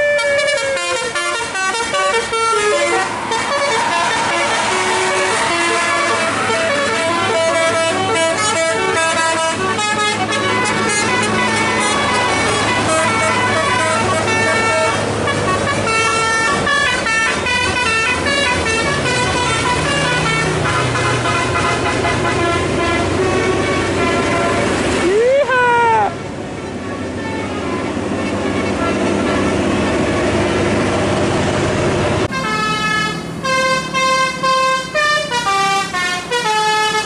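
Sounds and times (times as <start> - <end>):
musical bus air horns: 0.0 - 25.9, 26.6 - 30.8, 32.2 - 37.0
bus engine hum: 0.0 - 37.0.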